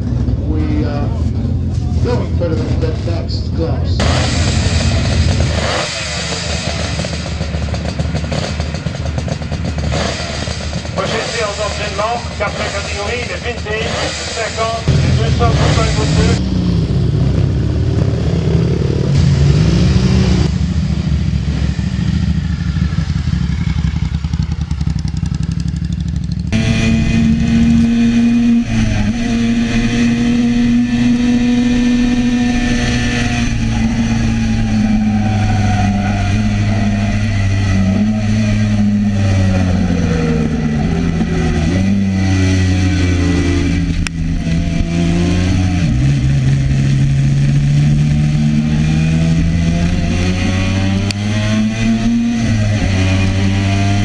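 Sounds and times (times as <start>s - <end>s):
racing motorcycle engine: 0.0s - 54.0s.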